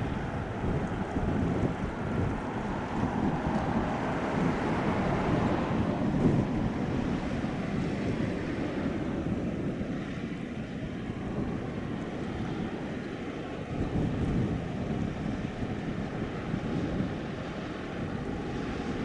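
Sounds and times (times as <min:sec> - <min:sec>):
water washing along ship hull: 0:00.0 - 0:19.0
wind rumbling on microphone: 0:00.0 - 0:19.0.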